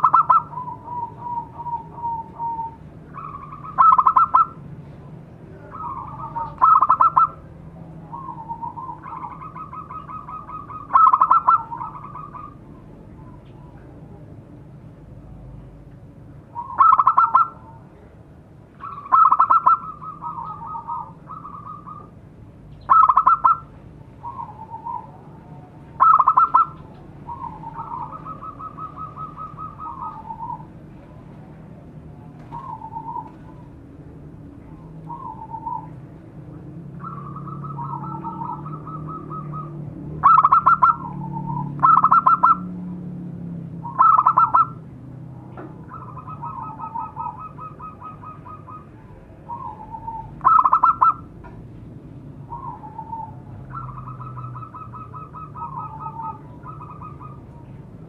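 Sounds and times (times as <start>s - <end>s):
dove cooing: 0.0s - 4.6s, 5.5s - 13.9s, 16.6s - 17.8s, 18.8s - 22.2s, 22.8s - 30.8s, 32.2s - 33.8s, 34.6s - 36.1s, 36.9s - 42.8s, 43.8s - 44.8s, 45.5s - 51.3s, 52.4s - 58.0s.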